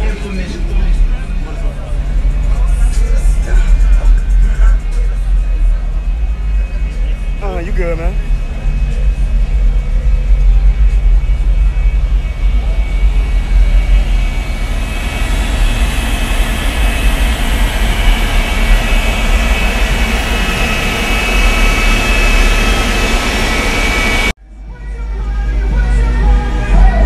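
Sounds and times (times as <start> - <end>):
faint high whine: 0.0 - 27.0
truck engine running: 0.0 - 27.0.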